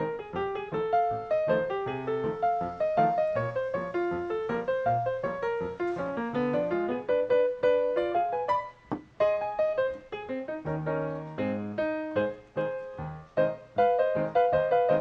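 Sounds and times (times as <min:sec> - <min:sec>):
quick piano melody: 0:00.0 - 0:15.0.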